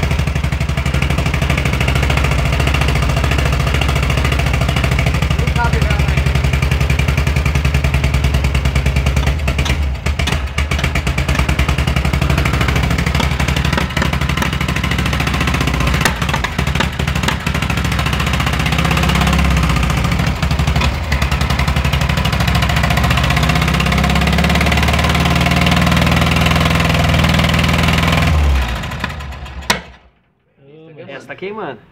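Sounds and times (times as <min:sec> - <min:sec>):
unexplained engine noise: 0:00.0 - 0:29.0
air-cooled car engine running: 0:00.0 - 0:29.6.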